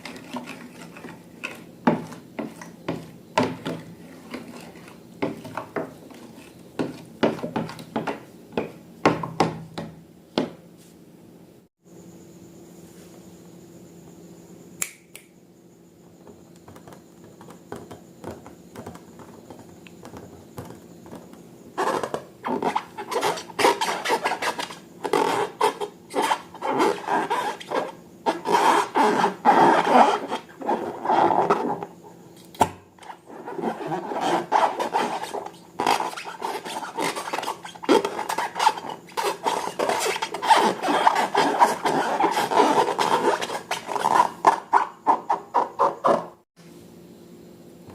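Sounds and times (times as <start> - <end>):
faint steady hum: 0.0 - 45.6, 46.3 - 47.9.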